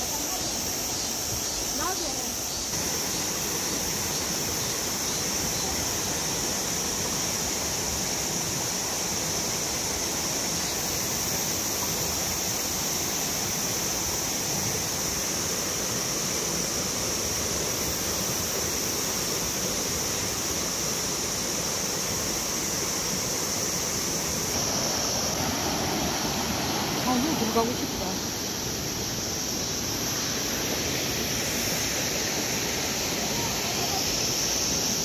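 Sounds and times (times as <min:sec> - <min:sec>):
cicadas droning: 0:00.0 - 0:35.0
stream rushing over rapids: 0:00.0 - 0:35.0.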